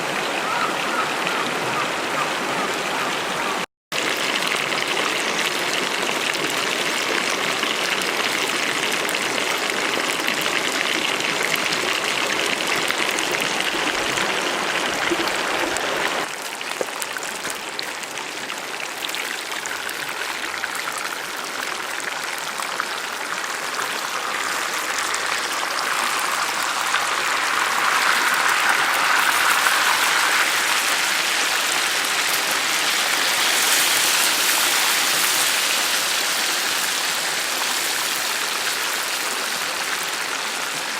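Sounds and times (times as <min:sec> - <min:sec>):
hot oil sizzling and crackling: 0:03.9 - 0:40.9.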